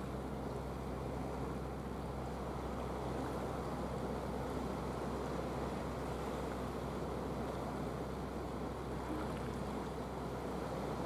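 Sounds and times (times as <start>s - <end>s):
water lapping: 0.2s - 11.0s.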